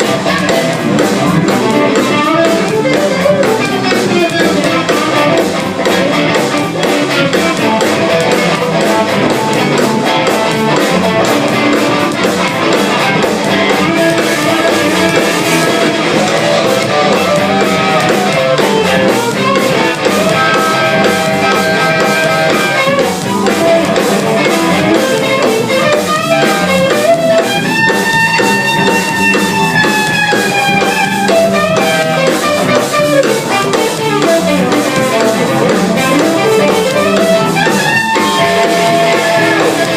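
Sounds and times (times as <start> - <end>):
drum kit playing: 0.0 - 39.9
electric guitar playing: 0.0 - 39.9
long held guitar lead note: 0.0 - 39.9.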